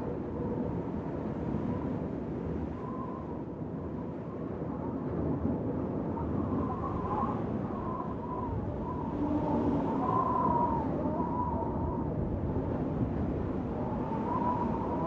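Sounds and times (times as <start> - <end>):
faint wavering wind whistle: 0.0 - 15.0.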